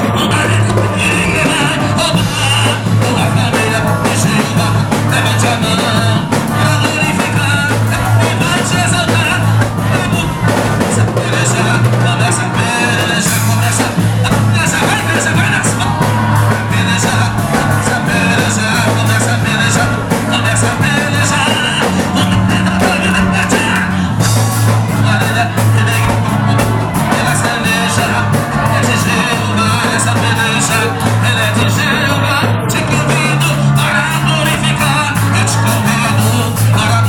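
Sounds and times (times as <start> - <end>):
heavy bass line: 0.0 - 37.0
person singing: 0.0 - 37.0
rock band playing: 0.0 - 37.0
steady drum beat: 0.0 - 37.0.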